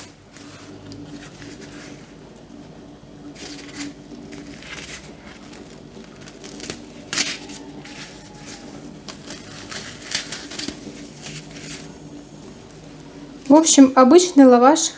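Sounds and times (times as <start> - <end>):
dry flatbread rustling and crackling: 0.0 - 2.6, 3.2 - 13.7
faint steady hum: 0.0 - 14.9.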